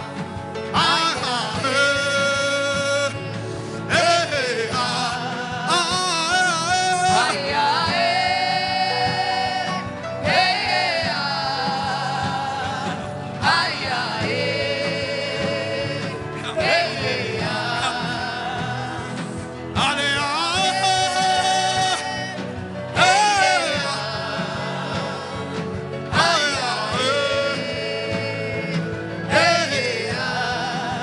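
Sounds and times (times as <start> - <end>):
person singing with vibrato: 0.6 - 31.0.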